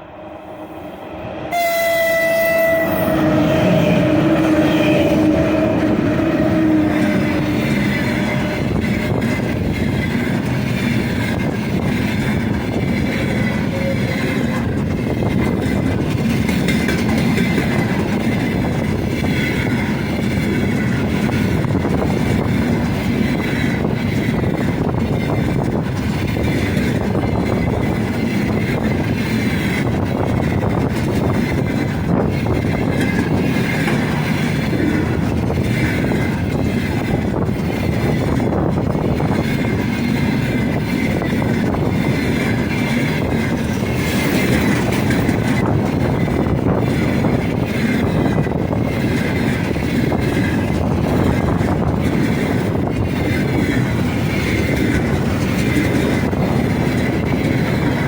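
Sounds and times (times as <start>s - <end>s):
train wheels rolling on rails: 0.9s - 58.0s.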